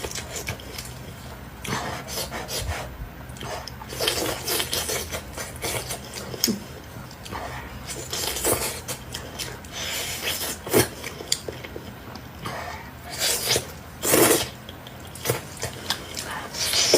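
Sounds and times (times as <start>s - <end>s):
chewing and gnawing food: 0.0s - 16.9s.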